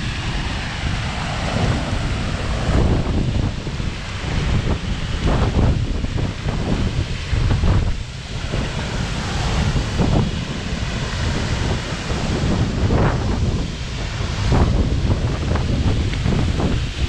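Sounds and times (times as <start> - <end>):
waterfall rushing: 0.0 - 17.0
wind buffeting microphone: 0.0 - 17.0.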